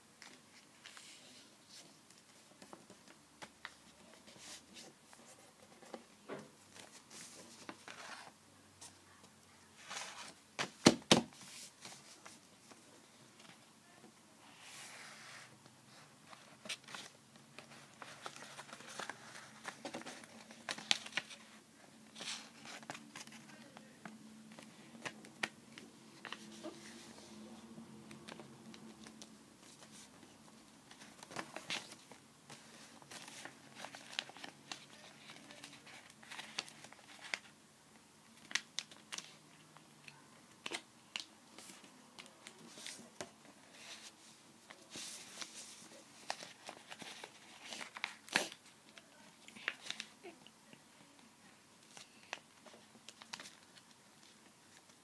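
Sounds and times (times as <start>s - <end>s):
paper folding and crinkling: 0.2s - 6.1s, 6.7s - 8.4s, 9.8s - 13.6s, 14.5s - 37.6s, 38.3s - 50.4s, 51.8s - 55.0s.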